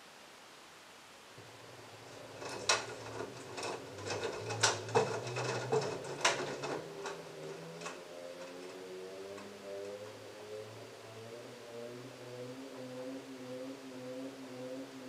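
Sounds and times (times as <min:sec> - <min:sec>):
washing machine motor hum rising: 0:01.4 - 0:15.0.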